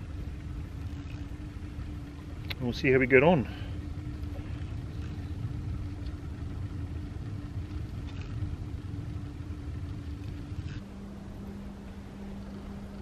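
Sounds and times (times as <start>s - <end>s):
constant low hum: 0.0s - 13.0s
low rumble: 0.0s - 13.0s.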